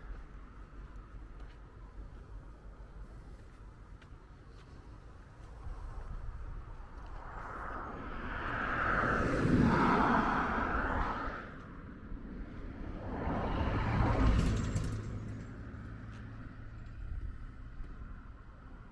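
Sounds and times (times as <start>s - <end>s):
cars passing: 0.0s - 18.9s
low engine hum: 0.0s - 18.9s.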